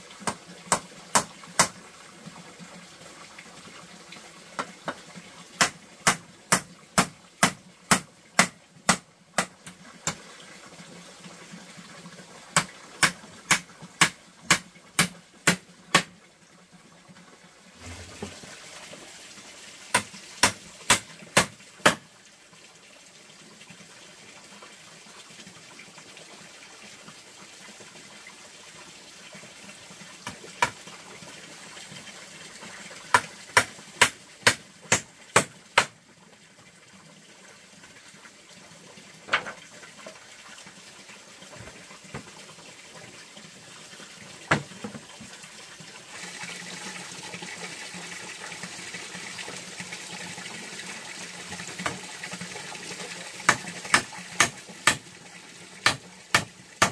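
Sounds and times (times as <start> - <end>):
running water: 0.0 - 56.9.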